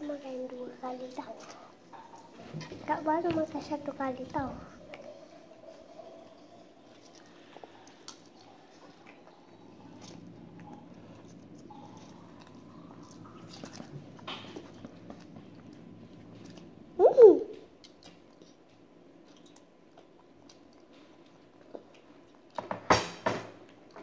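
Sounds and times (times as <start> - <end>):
children chewing and slurping noodles: 0.0 - 22.5.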